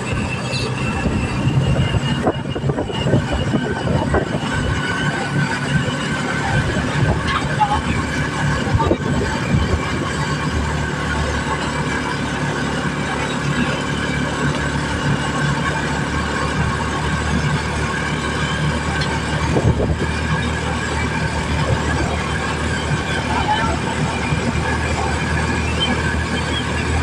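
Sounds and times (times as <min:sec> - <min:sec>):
road and wind noise: 0:00.0 - 0:27.0
small motorcycle engine running: 0:00.0 - 0:27.0.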